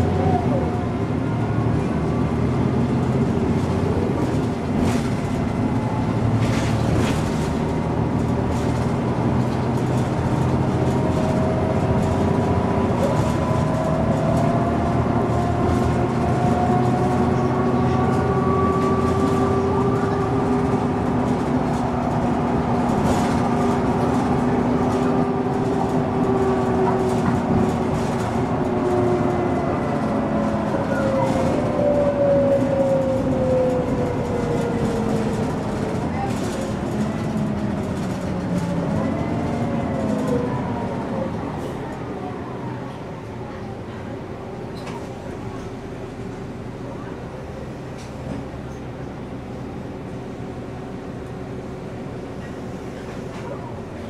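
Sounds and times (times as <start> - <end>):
bus engine whine: 0.0 - 54.0.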